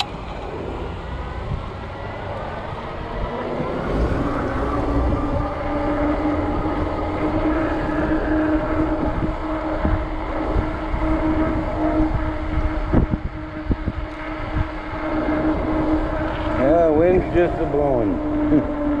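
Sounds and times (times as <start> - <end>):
electric bike motor hum: 0.0 - 19.0
tyres rolling on pavement: 0.0 - 19.0
wind buffeting microphone: 0.0 - 19.0.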